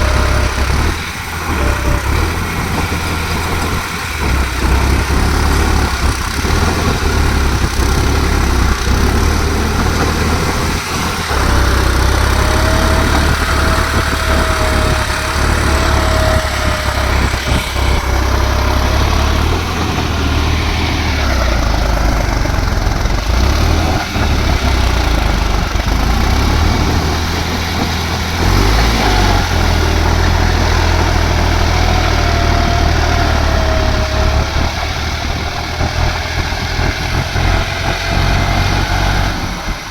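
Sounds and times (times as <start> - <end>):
tractor diesel engine rumbling: 0.0 - 39.9.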